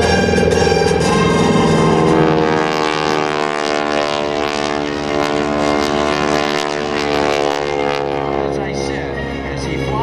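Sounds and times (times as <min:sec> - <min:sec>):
propeller plane droning overhead: 0:00.0 - 0:10.0.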